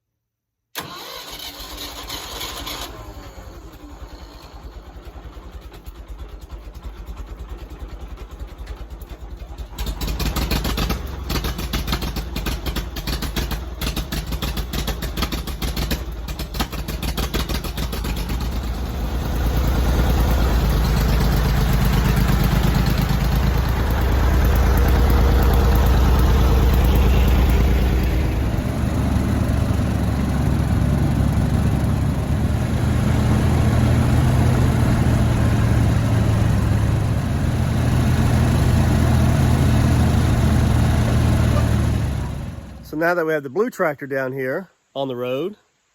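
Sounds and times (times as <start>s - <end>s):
tractor engine running: 0.8s - 43.0s.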